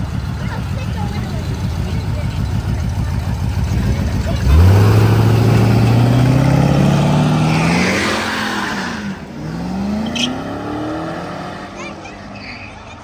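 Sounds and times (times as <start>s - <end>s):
car accelerating hard: 0.0s - 13.0s.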